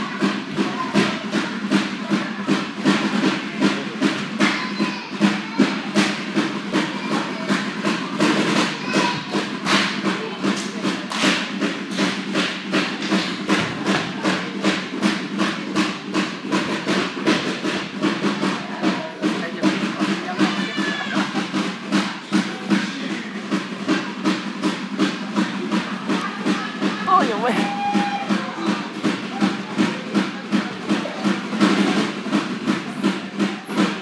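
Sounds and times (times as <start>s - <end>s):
fast clapping and slapping beat: 0.0s - 34.0s.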